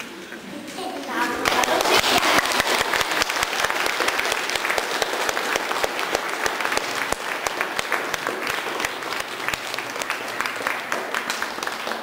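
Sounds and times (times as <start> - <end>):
audience applauding: 1.2 - 12.0.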